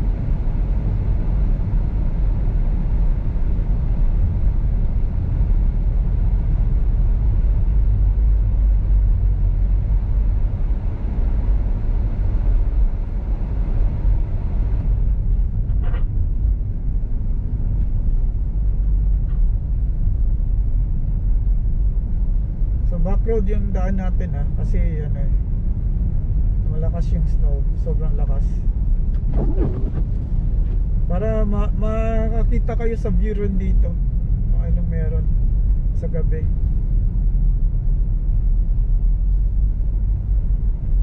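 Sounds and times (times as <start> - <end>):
car cabin road and engine rumble: 0.0 - 41.0.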